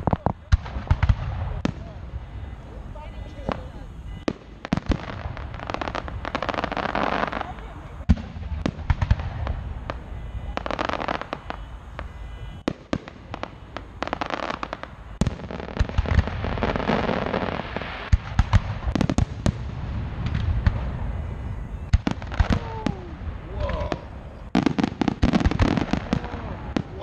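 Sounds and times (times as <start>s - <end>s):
fireworks bursting: 0.0s - 27.0s.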